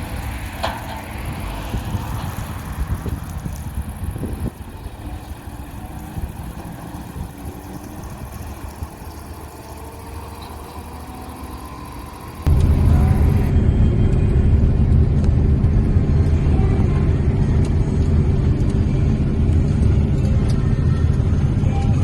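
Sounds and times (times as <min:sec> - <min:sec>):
harvest machinery engine rumble: 0:00.0 - 0:22.0.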